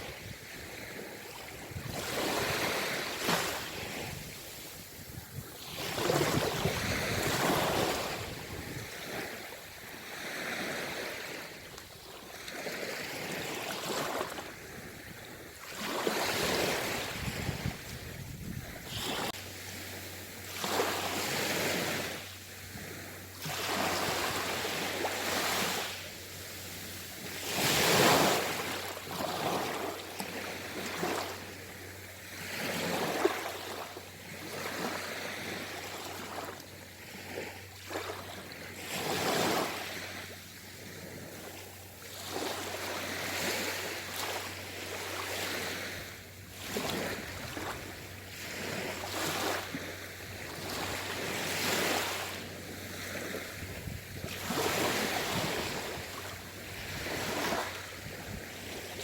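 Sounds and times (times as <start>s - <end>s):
sea waves surging and washing back: 0.0s - 59.0s.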